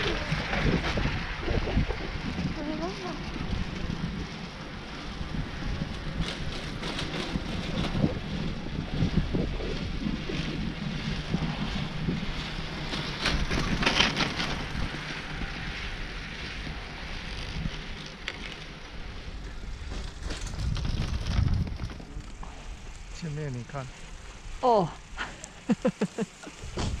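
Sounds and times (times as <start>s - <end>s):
wind buffeting microphone: 0.0s - 18.2s, 18.8s - 27.0s
skis swishing through powder snow: 0.0s - 27.0s.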